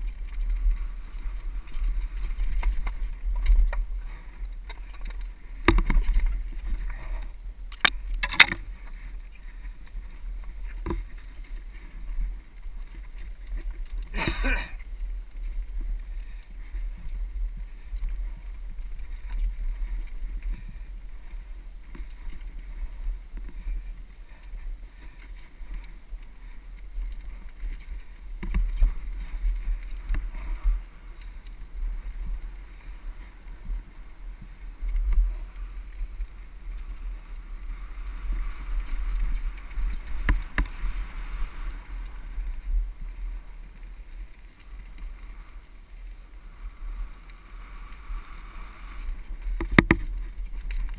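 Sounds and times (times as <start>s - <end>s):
bike rattling and clicking: 0.0s - 50.9s
wind rumbling on microphone: 0.0s - 50.9s.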